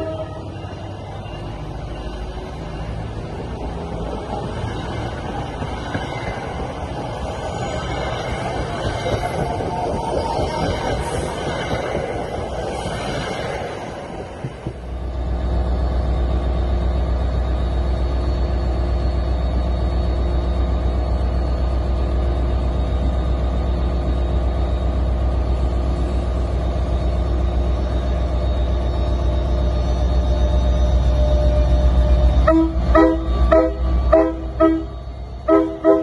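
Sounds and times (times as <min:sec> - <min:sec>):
diesel locomotive engine rumbling: 0:00.0 - 0:36.0
passing train: 0:00.0 - 0:36.0.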